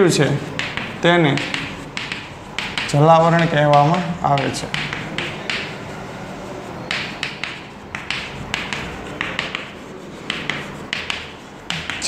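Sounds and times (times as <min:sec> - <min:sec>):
chalk scratching on chalkboard: 0:00.0 - 0:12.0.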